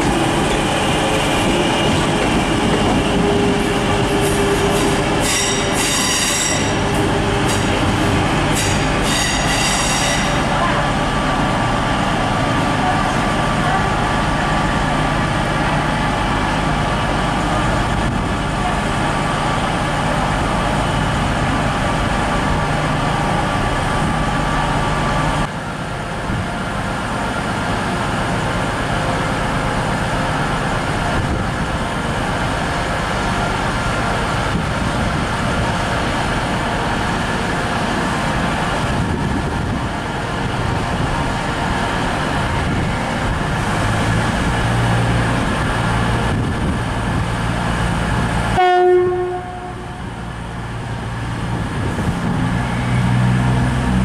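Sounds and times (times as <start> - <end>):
train engine hum: 0.0 - 54.0.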